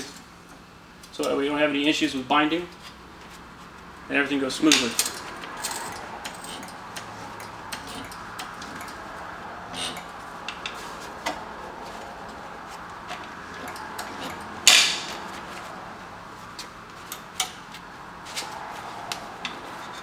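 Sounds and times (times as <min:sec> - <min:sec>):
steady shop hum: 0:00.0 - 0:20.0.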